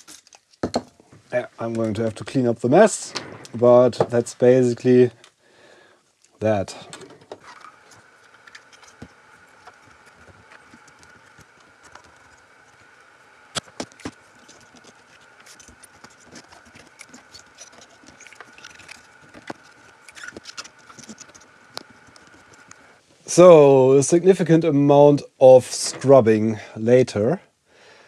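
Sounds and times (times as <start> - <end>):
faint high hum: 0.0 - 28.0.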